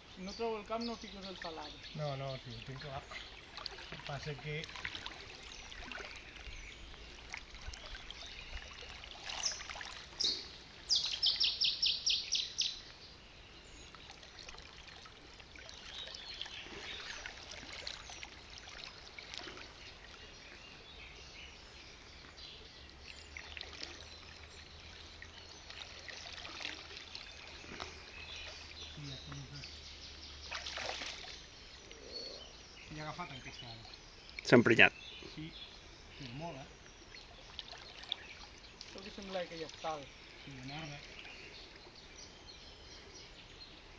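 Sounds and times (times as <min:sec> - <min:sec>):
birds chirping: 0:00.0 - 0:43.9
river water trickling and lapping: 0:00.0 - 0:43.9.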